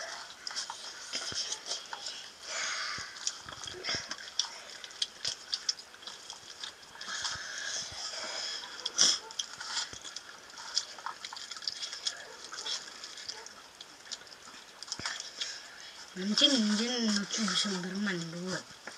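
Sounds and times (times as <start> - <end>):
children chewing: 0.0 - 18.9.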